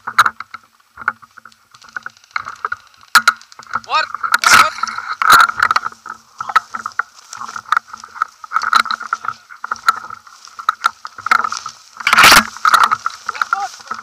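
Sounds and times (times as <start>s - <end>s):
grass brushing against camera: 0.0s - 14.0s
footsteps through tall grass: 0.8s - 14.0s.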